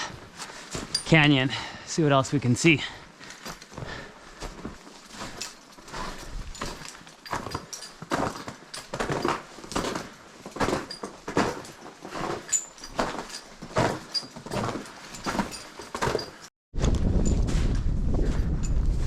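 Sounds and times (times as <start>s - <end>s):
footsteps on snow and ice: 3.1s - 19.0s.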